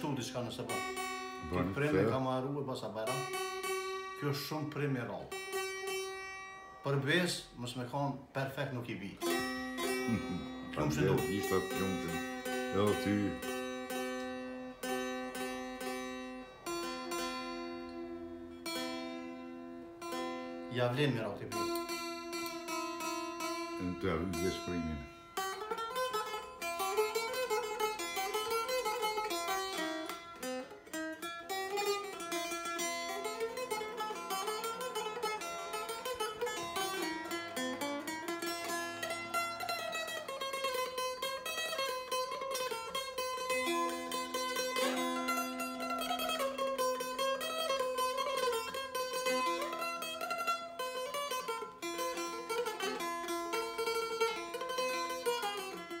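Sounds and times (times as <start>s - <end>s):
plucked lute melody: 0.0s - 56.0s.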